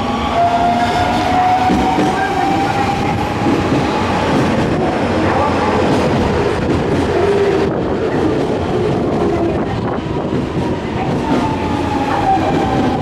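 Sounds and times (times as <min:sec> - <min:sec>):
electric train rolling: 0:00.0 - 0:13.0.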